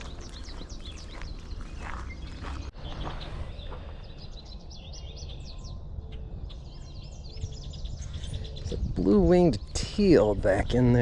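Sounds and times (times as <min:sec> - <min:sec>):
songbirds chirping: 0:00.0 - 0:11.0
steady low rumble: 0:00.0 - 0:11.0.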